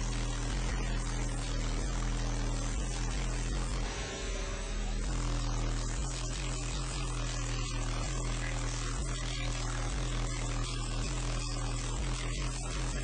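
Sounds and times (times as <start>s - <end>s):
subwoofers playing low bass hum: 0.0s - 13.0s.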